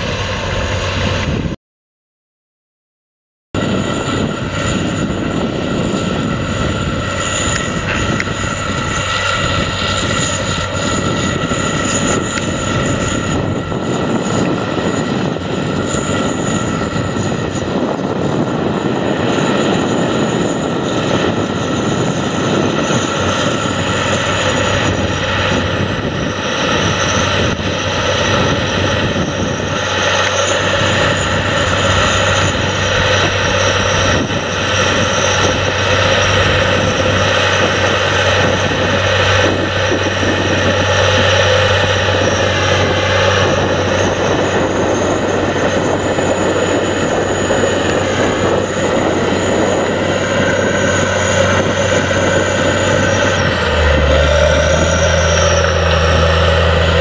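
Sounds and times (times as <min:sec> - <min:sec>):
tractor diesel engine under load: 0:03.6 - 0:57.0.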